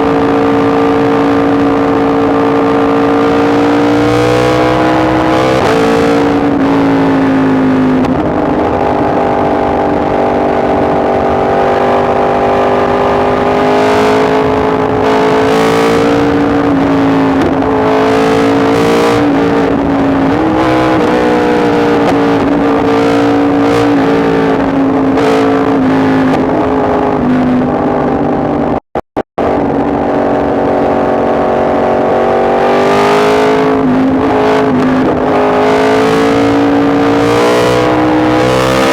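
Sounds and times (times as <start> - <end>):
motorcycle engine running: 0.0 - 28.8, 29.4 - 38.9.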